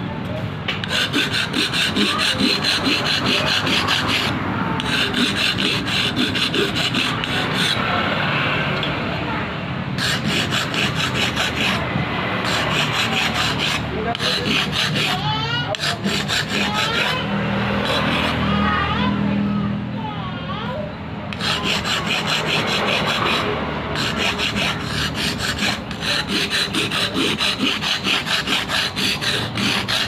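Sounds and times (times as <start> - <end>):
file rasping on metal: 0.7 - 8.0, 10.0 - 18.8, 21.4 - 30.0.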